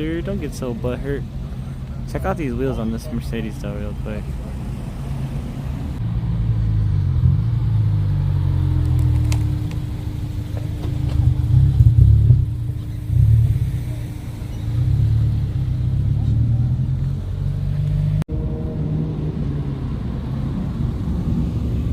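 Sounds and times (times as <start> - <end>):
car engine rumbling: 0.0 - 21.9.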